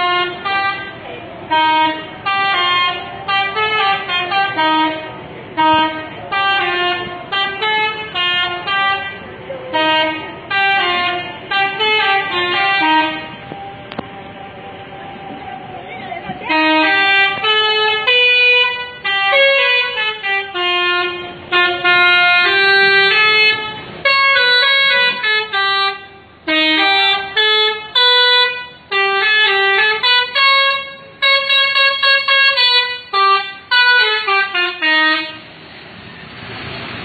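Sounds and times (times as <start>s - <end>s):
bus musical horn playing a tune: 0.0s - 14.4s, 16.2s - 35.6s.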